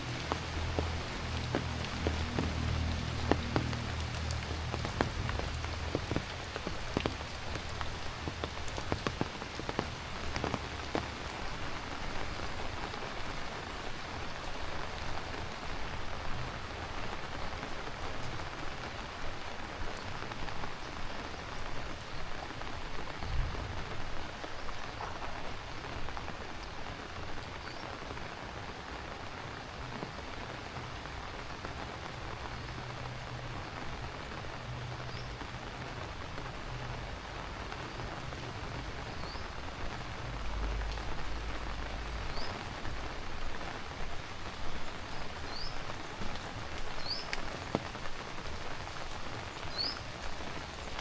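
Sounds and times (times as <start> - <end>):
heavy rain on hard surfaces: 0.0 - 51.0.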